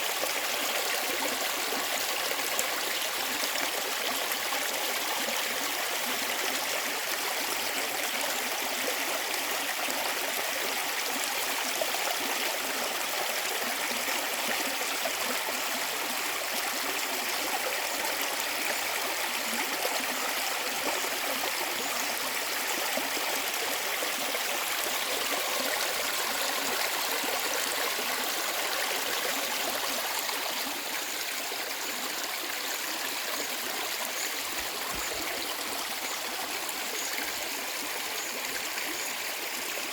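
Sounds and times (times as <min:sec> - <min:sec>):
stream babbling and gurgling: 0:00.0 - 0:39.9.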